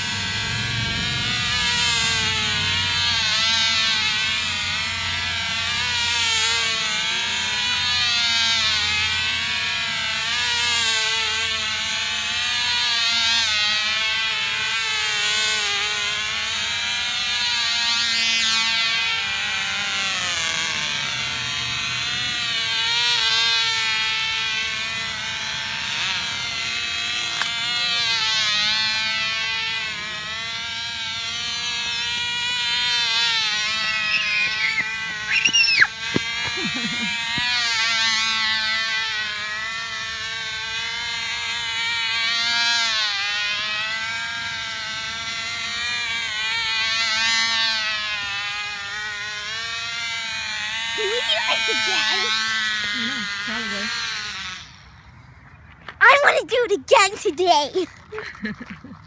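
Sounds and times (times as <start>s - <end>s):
model airplane engine whine: 0.0s - 55.8s.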